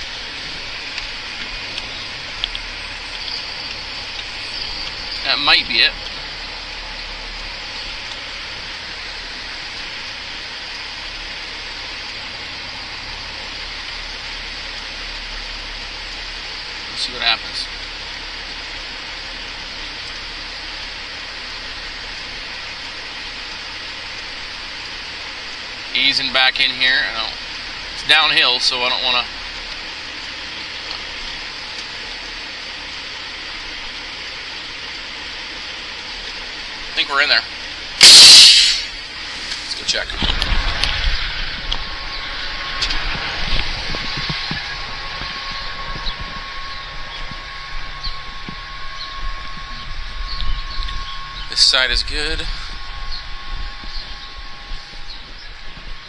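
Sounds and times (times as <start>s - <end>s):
diesel engine running low speed: 0.0s - 56.0s
steady hiss: 0.0s - 56.0s.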